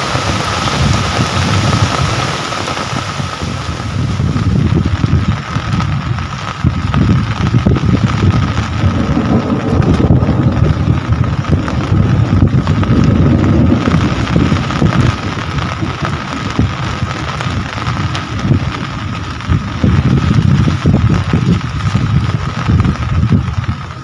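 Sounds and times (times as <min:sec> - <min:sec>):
low rumble in gusts: 0:00.0 - 0:24.0
rain falling: 0:00.0 - 0:24.0.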